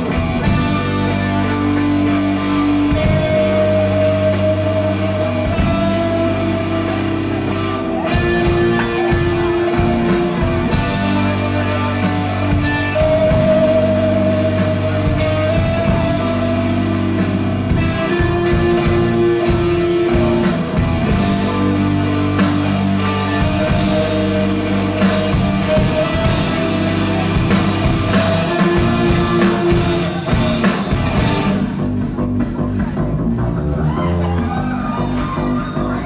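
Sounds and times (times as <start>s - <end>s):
electric guitar long notes: 0.0s - 32.3s
drum kit beat: 0.0s - 35.6s
bass guitar: 0.0s - 36.0s.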